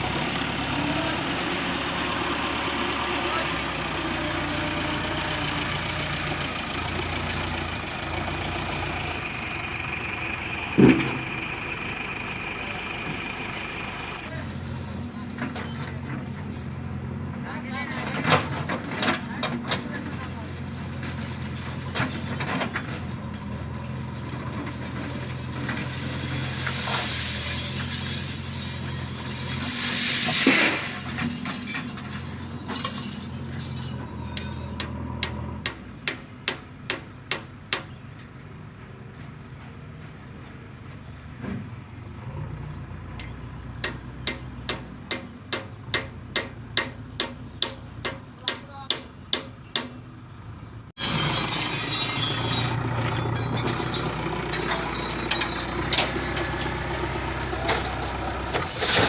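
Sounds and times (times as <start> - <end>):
diesel machinery running: 0.0 - 48.4, 49.1 - 59.0.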